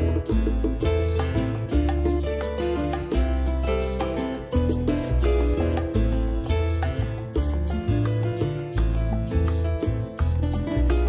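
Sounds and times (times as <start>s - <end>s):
music with bass and beat: 0.0s - 11.0s.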